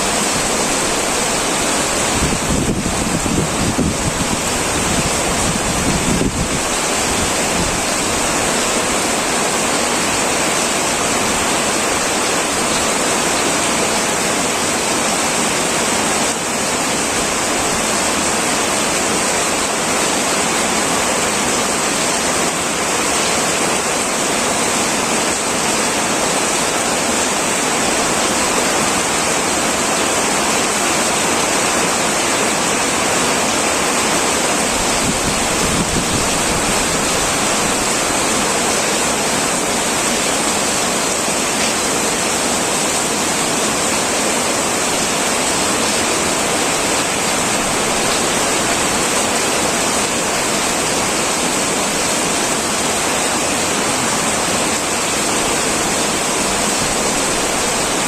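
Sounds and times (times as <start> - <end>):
heavy rain on a metal roof: 0.0 - 58.0.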